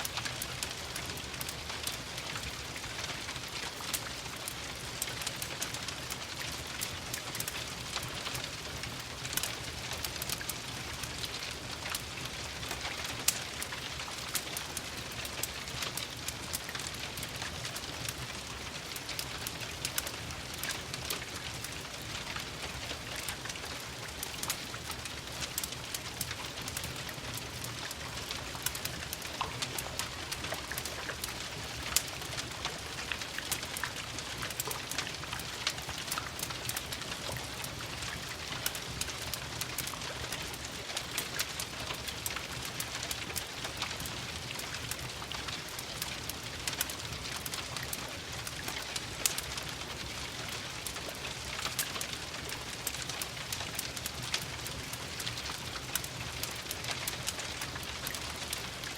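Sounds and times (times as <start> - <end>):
steady rain: 0.0 - 58.9
wood fire crackling: 0.0 - 58.9.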